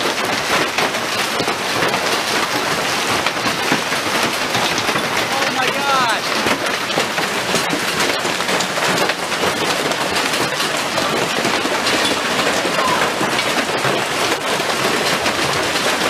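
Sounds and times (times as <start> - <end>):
hail clattering on cars and ground: 0.0 - 16.0.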